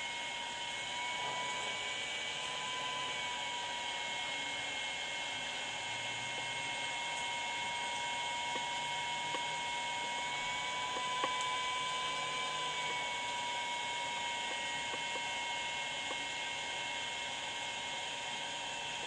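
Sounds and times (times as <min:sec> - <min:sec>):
rework station whirring: 0:00.0 - 0:19.0
thin steady whine: 0:00.0 - 0:19.0.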